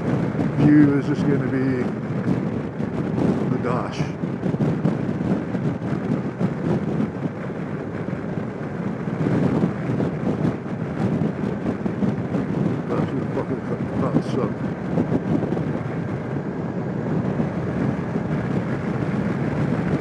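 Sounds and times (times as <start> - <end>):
scooter engine rumble: 0.0 - 20.0
wind buffeting microphone: 0.0 - 20.0.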